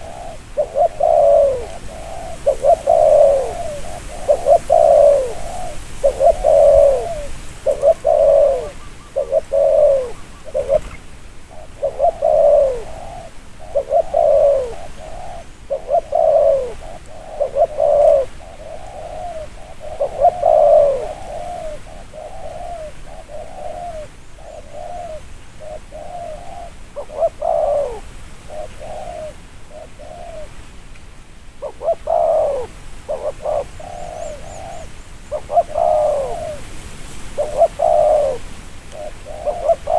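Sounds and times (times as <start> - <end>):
dove cooing: 0.0 - 30.6, 31.6 - 39.9.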